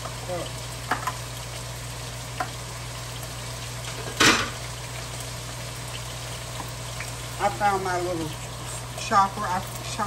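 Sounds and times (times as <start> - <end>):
meat and onion sizzling in skillet: 0.0 - 10.0.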